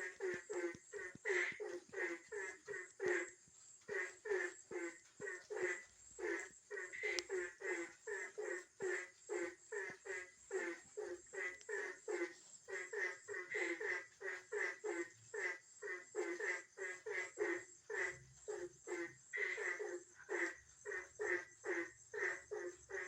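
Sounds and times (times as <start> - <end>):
frogs croaking: 0.0 - 23.0.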